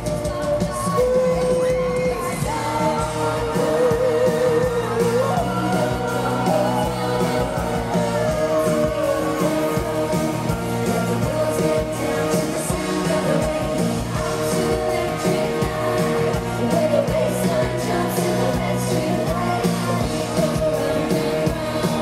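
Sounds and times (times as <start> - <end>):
pop band and beat: 0.0 - 22.0
women singing with vibrato: 0.0 - 22.0.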